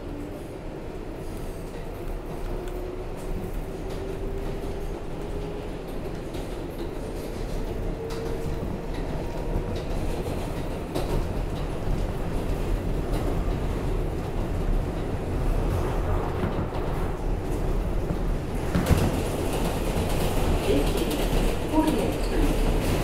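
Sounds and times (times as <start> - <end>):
subway train rumbling: 0.0 - 23.0
rail joints clicking: 1.1 - 23.0
train clatter: 1.1 - 23.0.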